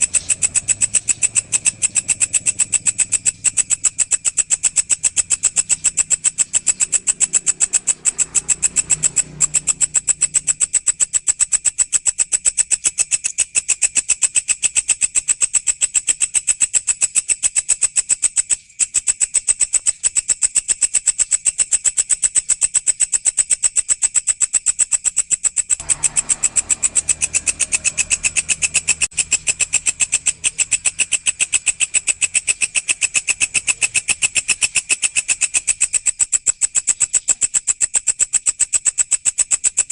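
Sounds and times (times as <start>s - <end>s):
grasshopper buzzing call: 0.0s - 39.9s.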